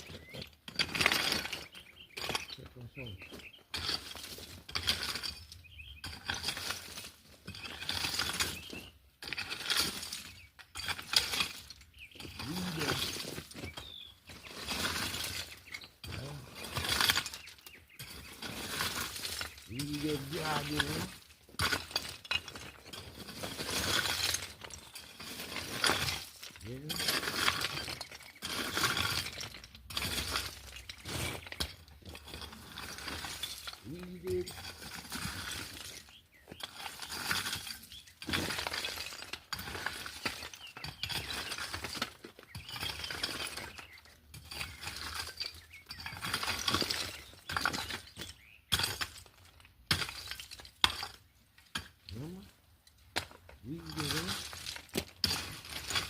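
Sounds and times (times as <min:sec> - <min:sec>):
hand tool scraping ground: 0:00.0 - 0:56.0.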